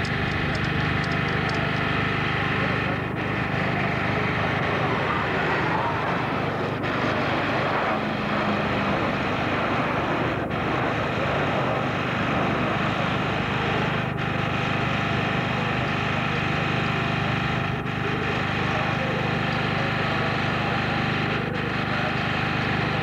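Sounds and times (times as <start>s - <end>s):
jet flyover: 0.0s - 22.9s
generator humming: 0.0s - 23.0s.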